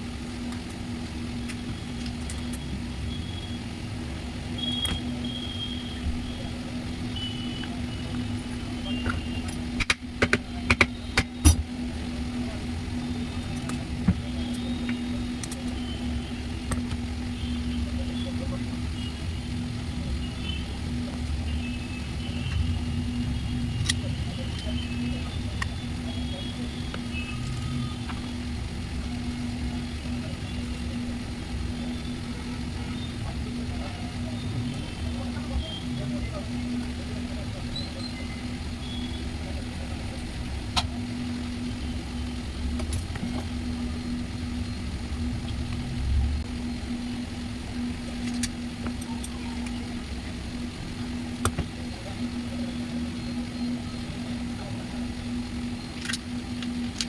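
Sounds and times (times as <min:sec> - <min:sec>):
machine humming: 0:00.0 - 0:57.0.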